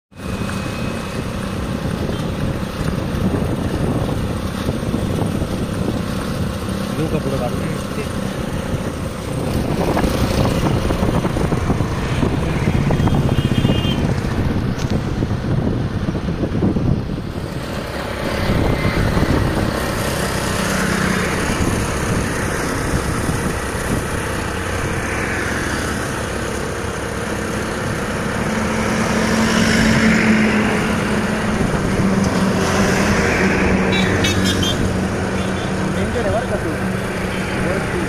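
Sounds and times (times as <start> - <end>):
heavy vehicle engine hum: 0.1 - 38.0
vehicles passing: 0.1 - 38.0.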